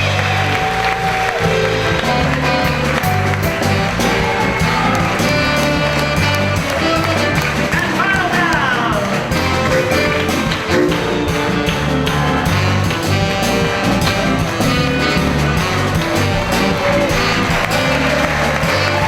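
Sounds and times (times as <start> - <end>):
rock and roll band music: 0.0 - 19.0.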